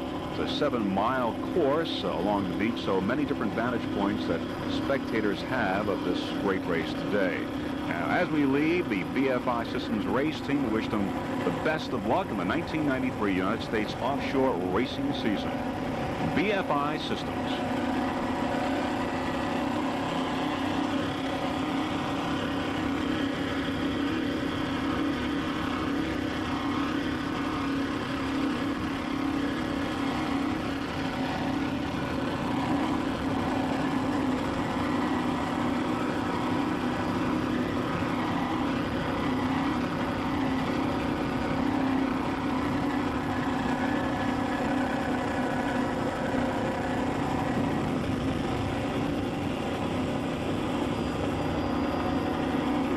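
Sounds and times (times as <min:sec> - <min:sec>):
engine drone: 0:00.0 - 0:52.9.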